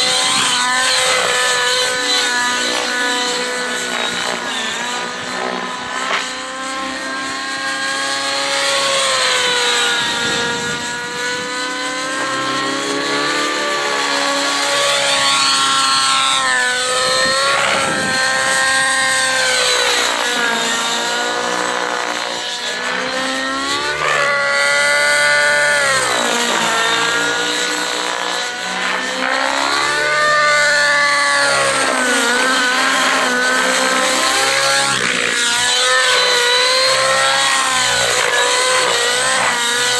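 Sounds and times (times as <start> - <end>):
model helicopter engine running hard: 0.0 - 39.9.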